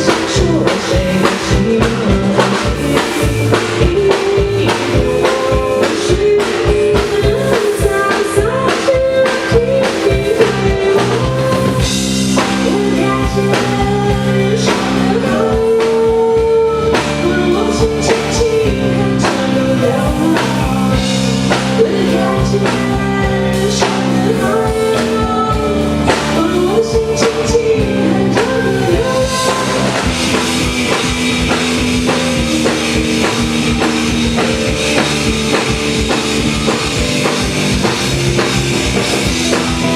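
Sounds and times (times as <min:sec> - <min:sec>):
bass: 0:00.0 - 0:39.9
drum kit: 0:00.0 - 0:39.9
keyboards: 0:00.0 - 0:39.9
person singing: 0:00.0 - 0:39.9.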